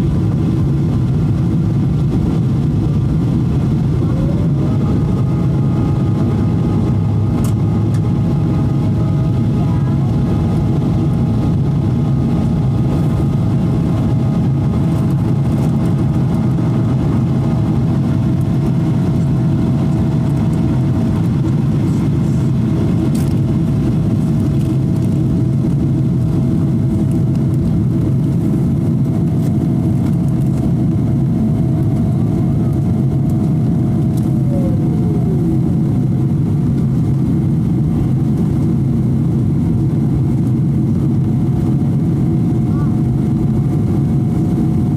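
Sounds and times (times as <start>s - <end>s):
airliner cabin drone: 0.0s - 44.9s.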